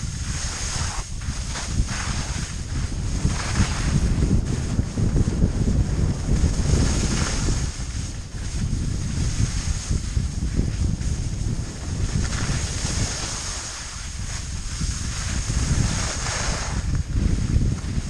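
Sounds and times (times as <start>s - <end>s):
skis scraping over snow: 0.0s - 18.0s
wind buffeting microphone: 0.0s - 18.0s.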